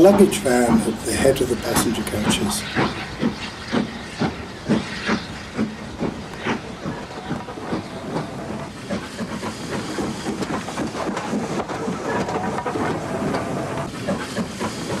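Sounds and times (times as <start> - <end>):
model train wheels clicking: 0.0 - 15.0
steam hiss: 0.0 - 15.0
steam locomotive chuffs: 0.0 - 15.0.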